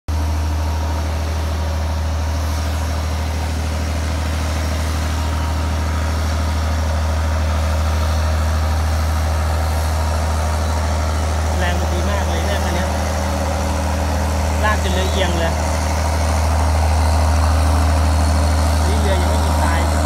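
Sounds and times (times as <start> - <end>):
diesel boat engine running: 0.1 - 20.0.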